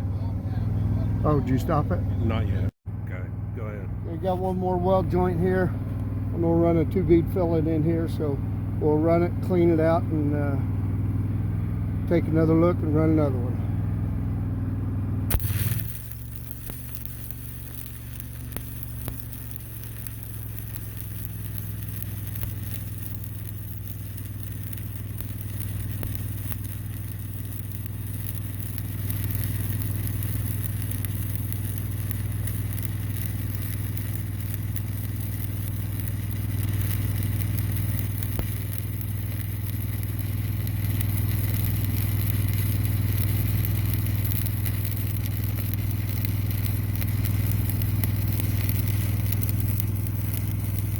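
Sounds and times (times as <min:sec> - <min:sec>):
low engine hum: 0:00.0 - 0:50.9
welding arc crackling: 0:04.1 - 0:12.2, 0:15.3 - 0:50.9.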